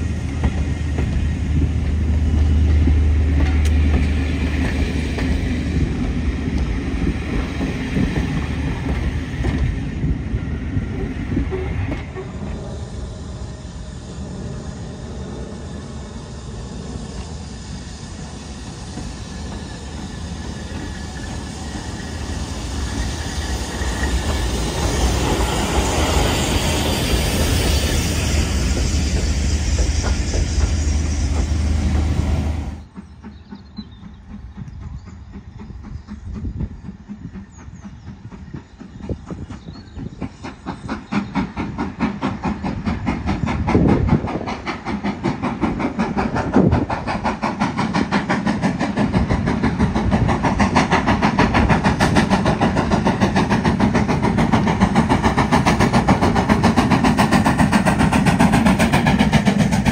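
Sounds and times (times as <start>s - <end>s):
passenger coaches rolling past: 0.0s - 59.9s
steam locomotive chuffing: 0.0s - 59.9s.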